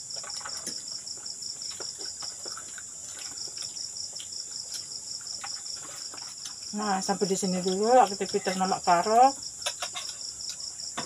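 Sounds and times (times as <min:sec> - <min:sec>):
rapidly pulsing insect chirp: 0:00.0 - 0:11.0
steady high insect trill: 0:00.0 - 0:11.0.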